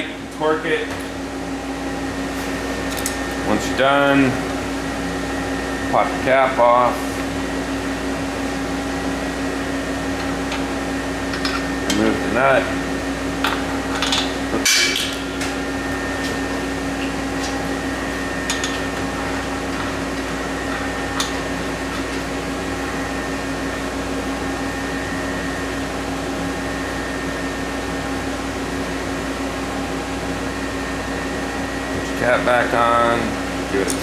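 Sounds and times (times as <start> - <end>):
steady shop hum: 0.0 - 34.0.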